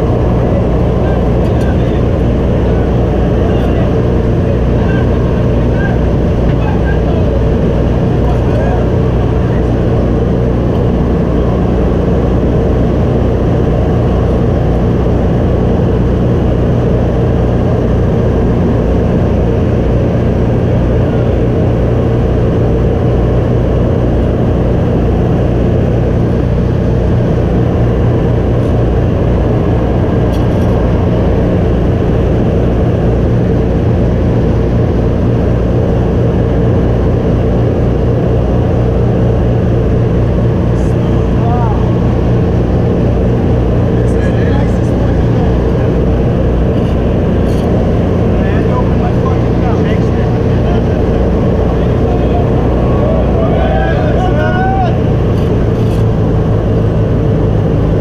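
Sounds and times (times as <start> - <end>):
propeller engines droning: 0.0 - 58.0.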